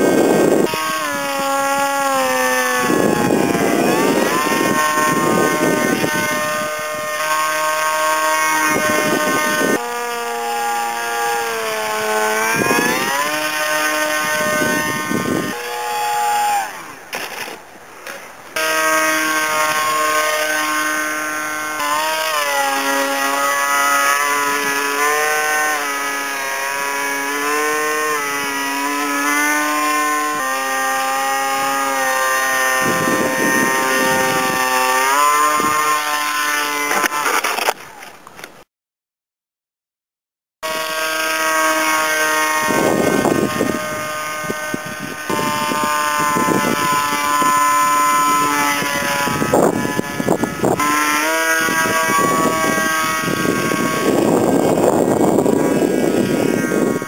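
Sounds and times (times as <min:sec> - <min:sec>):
wind noise on microphone: 0:00.0 - 0:17.1, 0:18.6 - 0:37.8, 0:40.7 - 0:57.0
model airplane motor and propeller: 0:00.0 - 0:38.7, 0:40.6 - 0:57.0.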